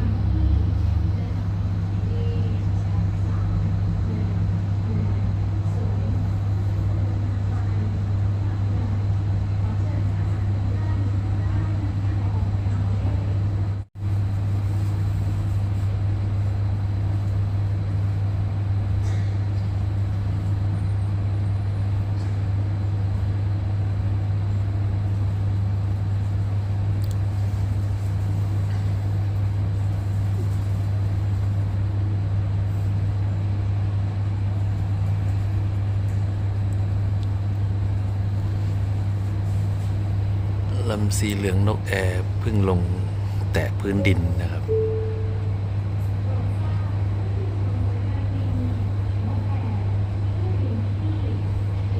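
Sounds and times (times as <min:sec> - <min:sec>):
airliner cabin drone: 0:00.0 - 0:51.9.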